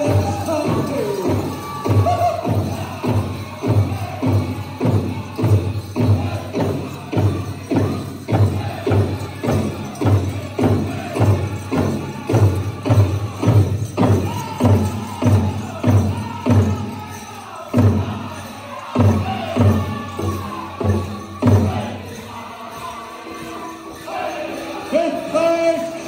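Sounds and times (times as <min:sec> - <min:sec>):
drum group singing: 0:00.0 - 0:26.0.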